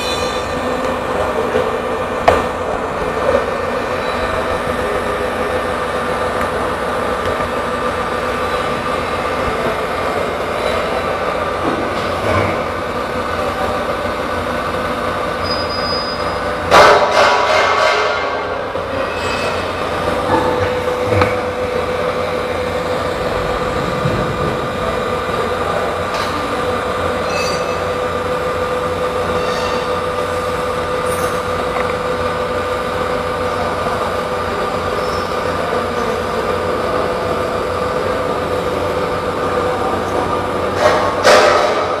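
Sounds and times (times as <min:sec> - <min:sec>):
welding machine hum and whine: 0:00.0 - 0:42.0.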